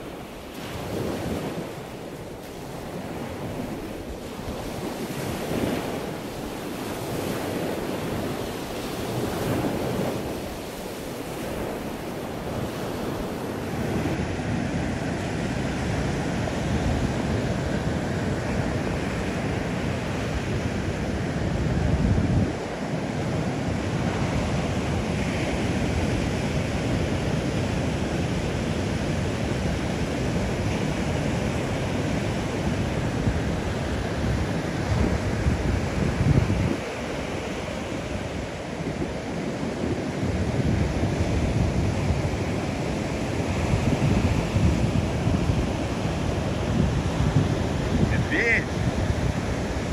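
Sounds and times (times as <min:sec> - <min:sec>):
ocean surf breaking: 0:00.0 - 0:49.9
wind gusting on microphone: 0:00.0 - 0:49.9.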